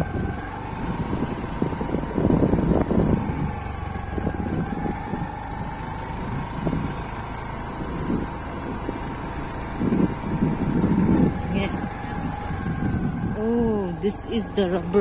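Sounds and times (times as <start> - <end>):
motorbike engine: 0.0 - 15.0
wind on microphone: 0.0 - 15.0.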